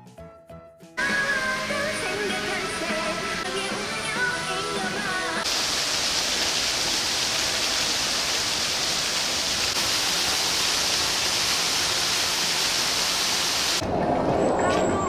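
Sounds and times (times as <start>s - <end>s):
falling water hiss: 1.0s - 13.8s.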